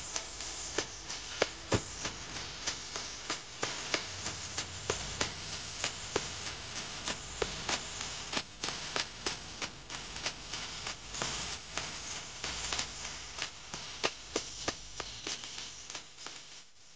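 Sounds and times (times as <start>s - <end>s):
steady background hiss: 0.0s - 16.8s.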